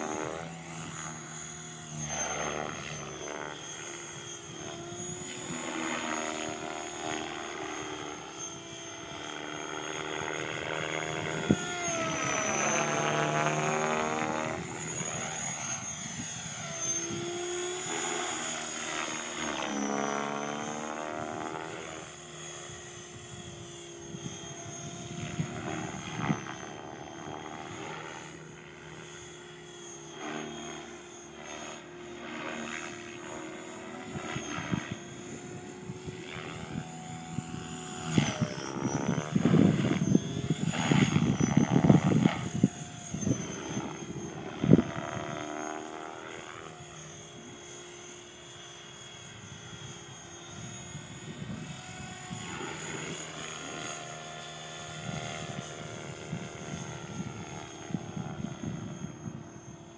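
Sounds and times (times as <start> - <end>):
high-pitched whine: 0.0 - 59.9
model helicopter rotor buzz: 0.0 - 59.9.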